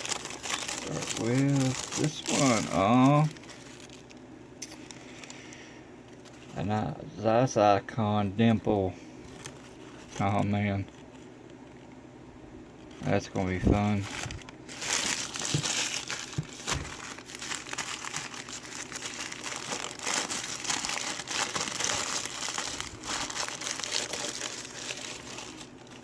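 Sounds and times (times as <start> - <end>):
packing paper crinkling: 0.0 - 6.8, 8.4 - 12.0, 12.7 - 26.0.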